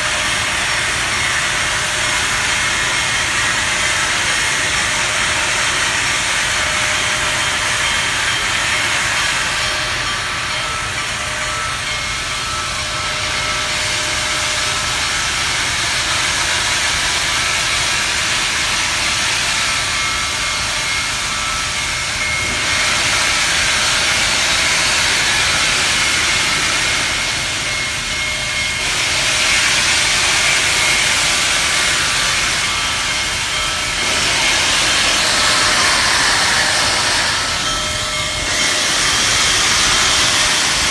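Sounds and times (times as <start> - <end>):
faint high whining tones: 0.0 - 40.9
steam locomotive hissing steam: 0.0 - 40.9.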